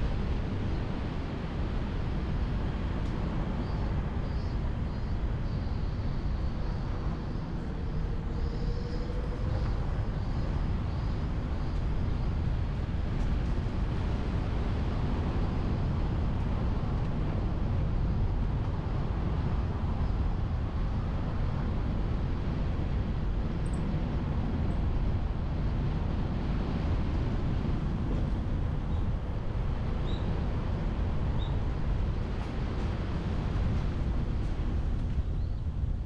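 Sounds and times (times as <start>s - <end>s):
car road and tyre noise: 0.0s - 36.0s
wind rumble on microphone: 0.0s - 36.0s.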